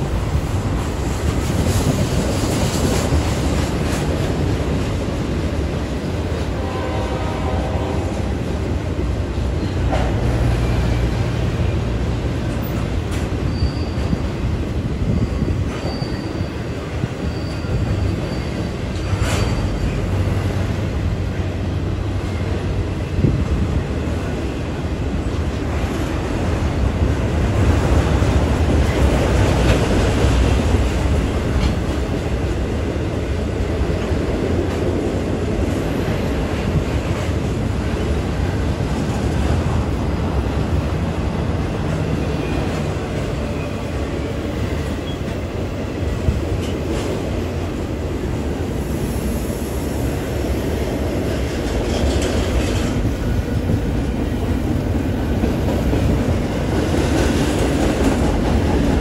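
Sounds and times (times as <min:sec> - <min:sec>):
sharp clacks of train wheels: 0:00.0 - 0:06.5, 0:09.5 - 0:11.5, 0:12.3 - 0:20.7, 0:25.1 - 0:32.6, 0:33.4 - 0:47.9, 0:50.7 - 0:59.0
freight train wheels on rail: 0:00.0 - 0:59.0.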